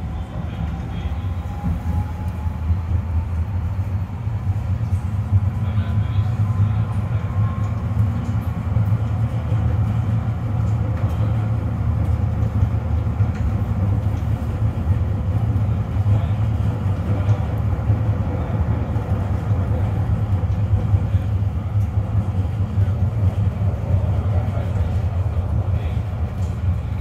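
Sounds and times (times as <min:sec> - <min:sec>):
tram rumble from inside: 0:00.0 - 0:27.0.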